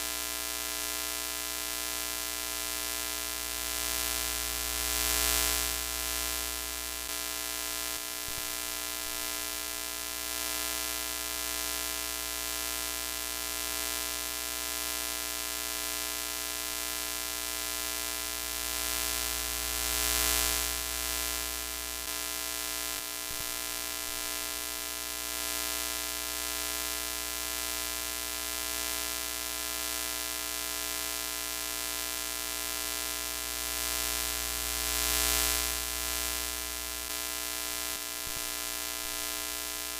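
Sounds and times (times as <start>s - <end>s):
electrical buzzing hum: 0.0s - 39.9s.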